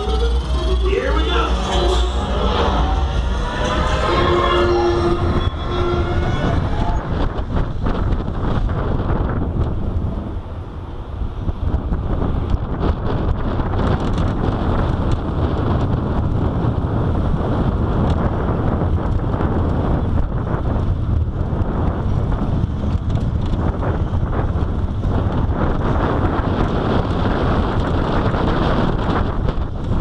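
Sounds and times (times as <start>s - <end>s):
roller coaster rumbling on track: 0.0s - 30.0s
wind buffeting microphone: 0.0s - 30.0s.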